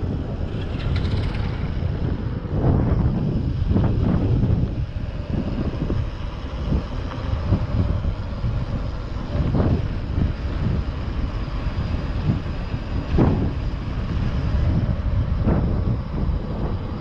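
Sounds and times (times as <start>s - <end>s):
bike tyres rolling on asphalt: 0.0s - 17.0s
wind buffeting microphone: 0.0s - 17.0s.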